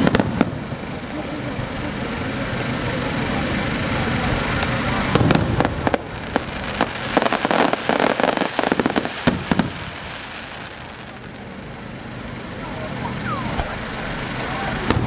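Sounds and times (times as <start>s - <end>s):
fireworks bursting and crackling: 0.0s - 15.0s
steady background noise: 0.0s - 15.0s.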